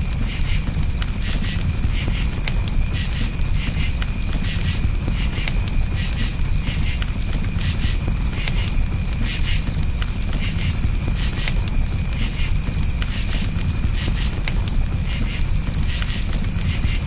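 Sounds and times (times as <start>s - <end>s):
campfire crackling: 0.0s - 17.0s
crickets chirping: 0.0s - 17.0s.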